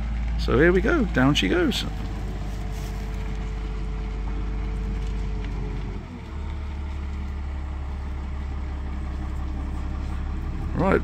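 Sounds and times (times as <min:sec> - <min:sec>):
boat hoist engine drone: 0:00.0 - 0:11.0.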